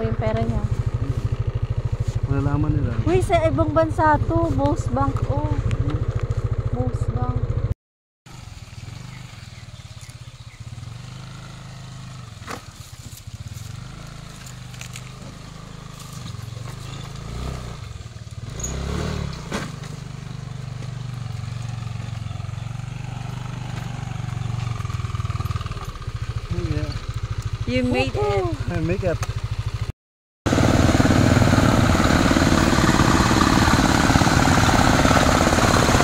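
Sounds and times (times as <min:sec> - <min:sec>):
scooter engine running: 0:00.0 - 0:07.7, 0:08.3 - 0:29.9, 0:30.5 - 0:36.0.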